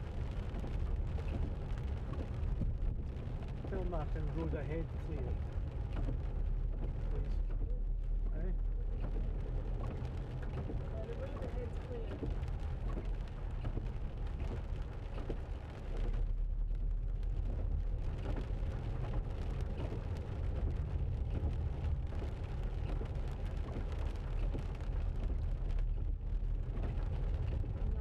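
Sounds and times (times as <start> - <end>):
engine and tyre rumble: 0.0 - 28.0
rain ticking on windscreen: 0.0 - 28.0.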